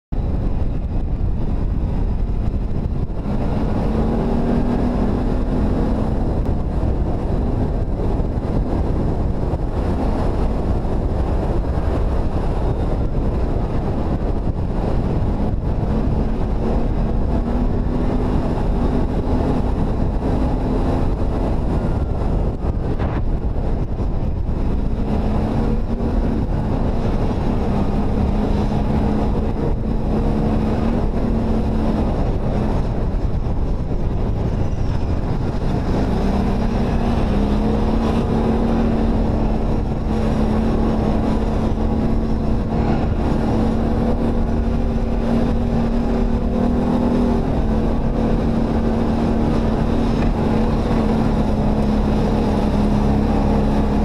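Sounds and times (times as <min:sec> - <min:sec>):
atv engine running: 0:00.1 - 0:54.0
wind buffeting microphone: 0:00.1 - 0:54.0.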